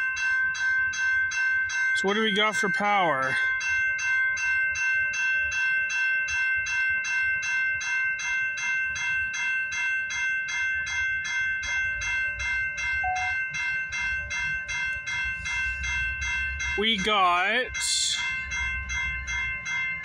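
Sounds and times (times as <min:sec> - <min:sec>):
level crossing bell ringing: 0:00.0 - 0:20.0.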